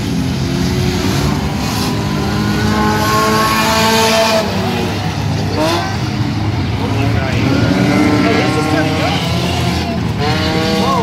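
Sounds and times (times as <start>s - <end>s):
engine revving up: 0.0s - 11.0s
racing car engines: 0.0s - 11.0s.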